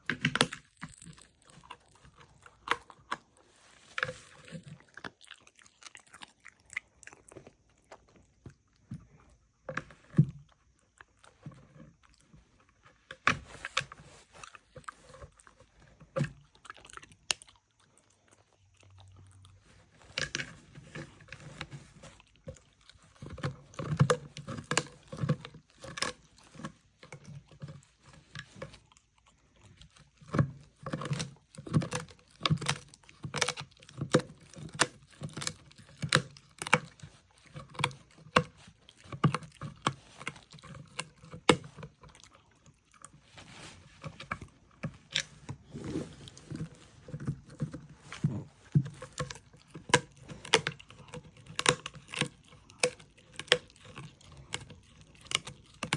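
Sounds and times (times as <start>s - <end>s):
dog crunching food: 0.0s - 55.9s.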